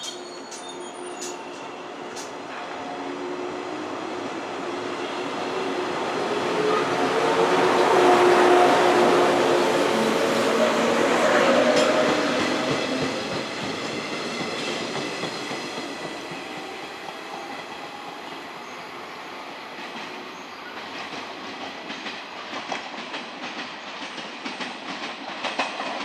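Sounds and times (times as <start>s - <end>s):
electric train pulling away: 0.2s - 21.1s.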